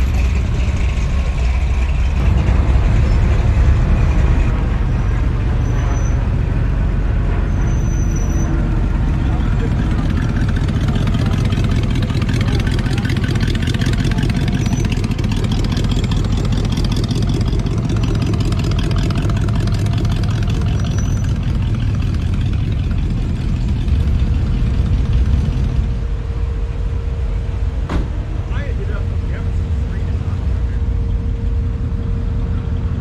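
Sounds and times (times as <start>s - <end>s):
hot rod engines running: 0.0s - 33.0s.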